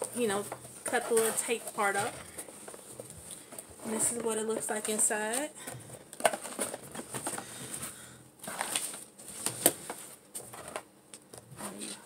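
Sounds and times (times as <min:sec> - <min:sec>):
paper rustling and crinkling: 0:00.0 - 0:10.8.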